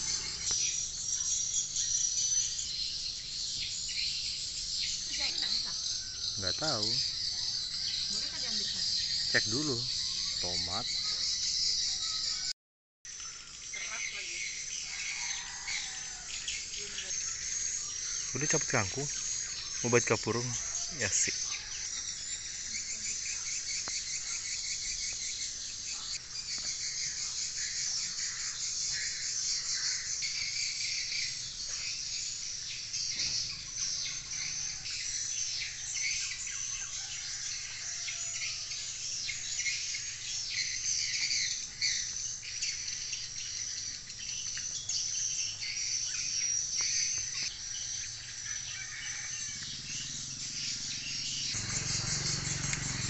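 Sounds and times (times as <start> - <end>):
birds chirping: 0.0 - 12.5, 13.1 - 53.0
insects trilling: 0.0 - 12.5, 13.1 - 53.0.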